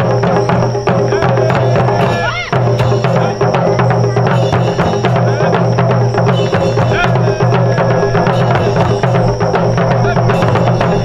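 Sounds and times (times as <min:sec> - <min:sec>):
taiko drum ensemble playing: 0:00.0 - 0:11.0.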